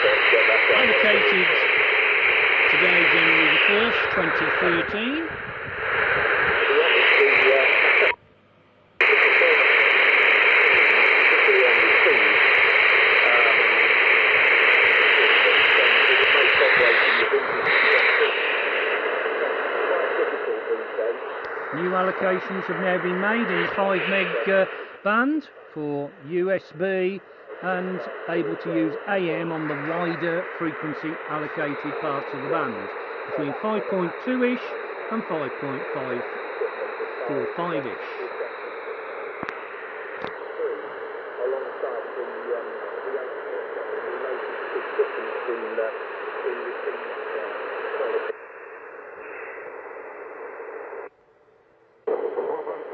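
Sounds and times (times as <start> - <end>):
faint wavering radio voice: 0.0 - 8.2, 9.0 - 48.4, 52.1 - 52.9
radio static hiss: 0.0 - 8.2, 9.0 - 51.1, 52.1 - 52.9.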